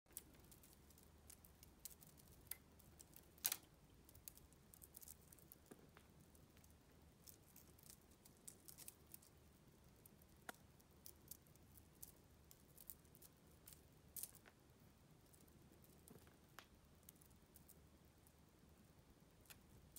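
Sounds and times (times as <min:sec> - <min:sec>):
faint clicks and rustles: 0:00.1 - 0:18.4.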